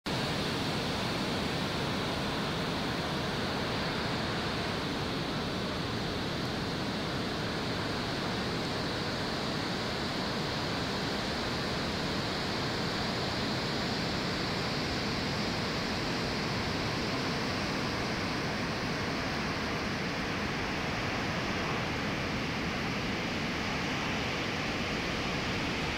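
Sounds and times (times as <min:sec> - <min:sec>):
surf on rocky shore: 0:00.1 - 0:25.9.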